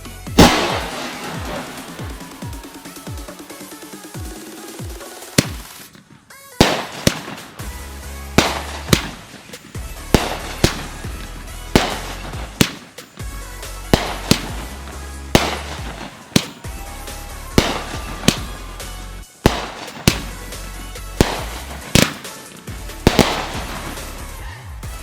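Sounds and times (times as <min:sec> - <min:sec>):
background music: 0:00.0 - 0:25.0
fireworks bangs: 0:00.2 - 0:25.0.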